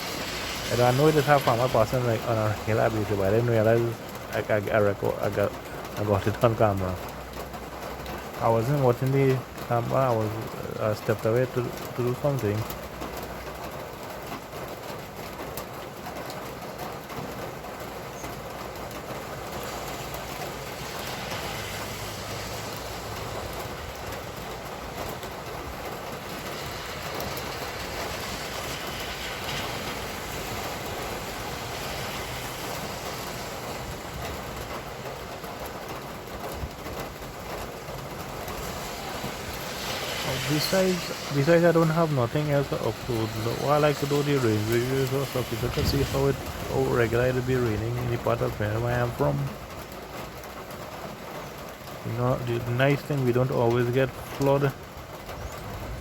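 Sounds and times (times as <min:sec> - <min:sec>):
steady rain falling: 0:00.0 - 0:56.0
vehicles passing on wet road: 0:00.0 - 0:56.0.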